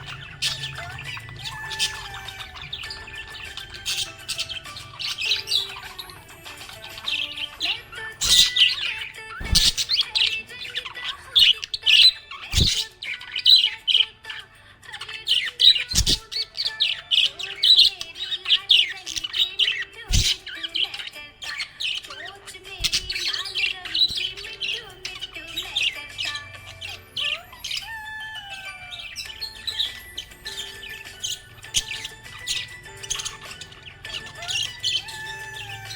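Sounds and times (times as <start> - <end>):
budgerigar chirping and warbling: 0.0 - 35.9.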